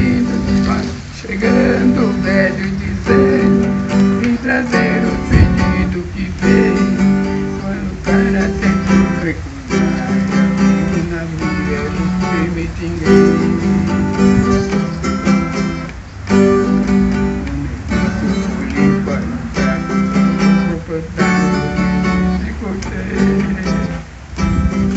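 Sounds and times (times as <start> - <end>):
guitar strummed chords: 0.0 - 24.9.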